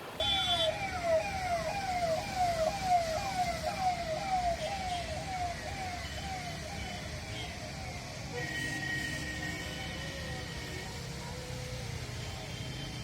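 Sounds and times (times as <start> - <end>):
emergency vehicle siren wailing: 0.2 - 13.0.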